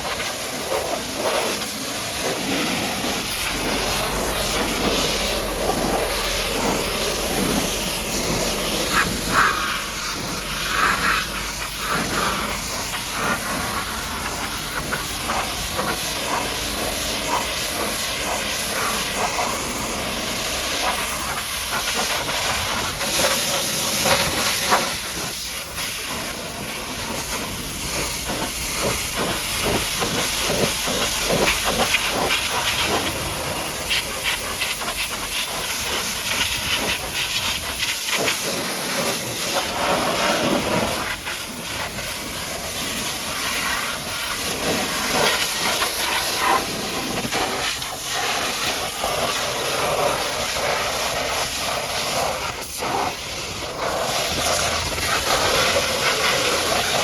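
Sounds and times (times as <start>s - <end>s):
pressure washer spraying: 0.0s - 57.0s.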